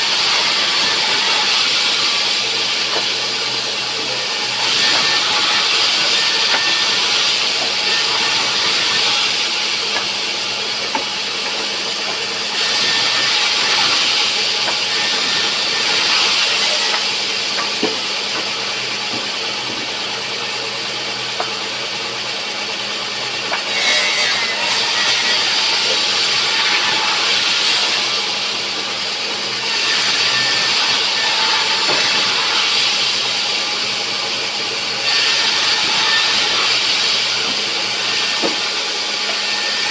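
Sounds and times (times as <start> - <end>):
saw blade cutting wood: 0.0 - 21.9, 22.8 - 39.9
sawmill saw running: 0.0 - 39.9.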